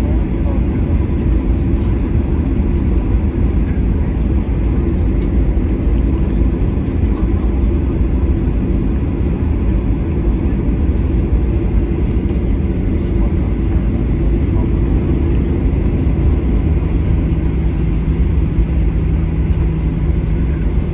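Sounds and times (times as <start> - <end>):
jet engines rumbling in cabin: 0.0 - 20.9.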